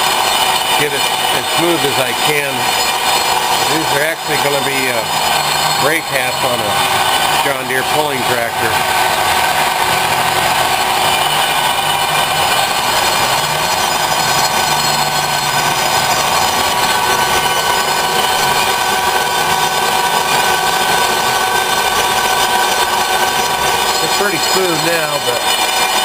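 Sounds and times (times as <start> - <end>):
lathe tool cutting metal: 0.0 - 26.0
metal lathe humming: 0.0 - 26.0
steady machine tones: 0.0 - 26.0.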